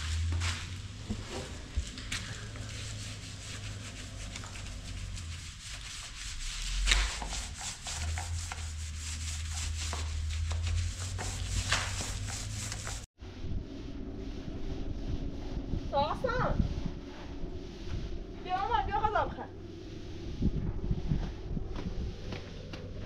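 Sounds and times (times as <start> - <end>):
paint roller rubbing on wall: 0.0 - 23.0.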